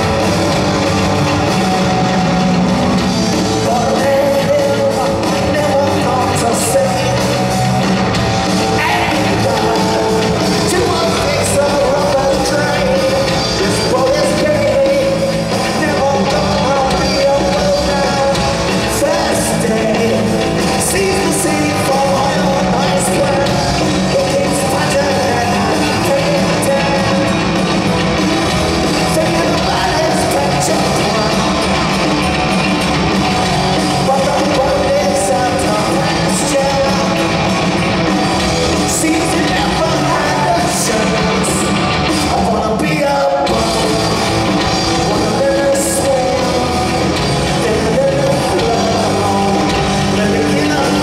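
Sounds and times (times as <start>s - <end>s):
bass guitar: 0.0s - 51.0s
drums with cymbal hits: 0.0s - 51.0s
electric guitars: 0.0s - 51.0s
man singing: 3.2s - 27.6s, 28.8s - 51.0s.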